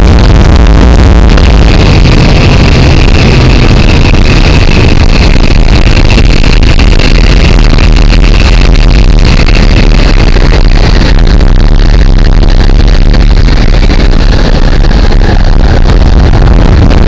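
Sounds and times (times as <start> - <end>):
propeller aircraft engine roar: 0.0 - 17.0.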